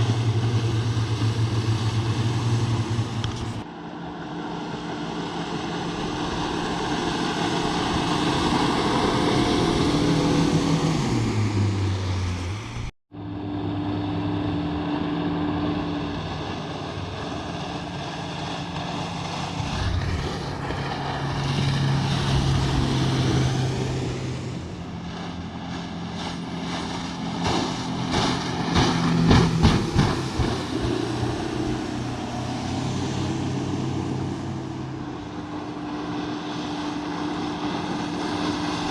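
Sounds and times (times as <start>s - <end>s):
wind and water rushing: 0.0s - 3.6s, 4.2s - 38.9s
outboard motor running: 0.0s - 38.9s.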